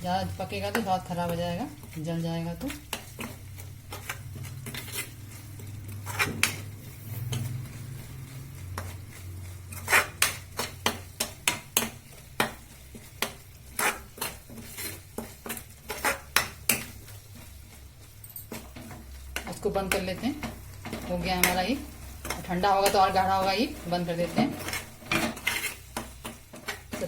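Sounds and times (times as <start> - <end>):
spoon knocking and scraping pan: 0.4 - 27.0.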